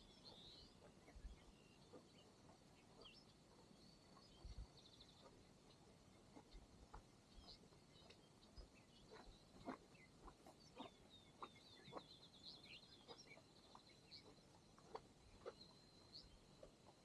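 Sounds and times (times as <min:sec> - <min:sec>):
distant bird singing: 0:00.0 - 0:17.0.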